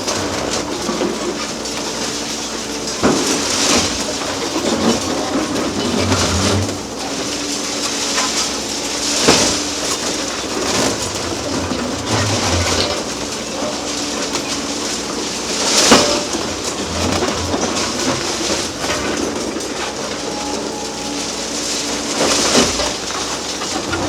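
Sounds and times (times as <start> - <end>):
diesel engine running: 0.0 - 24.0
concrete and steel clattering: 2.9 - 24.0.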